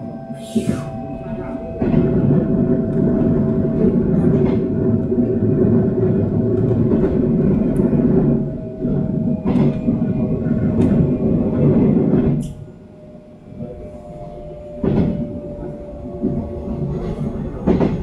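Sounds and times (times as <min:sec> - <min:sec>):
train running rumble: 0:00.0 - 0:18.0.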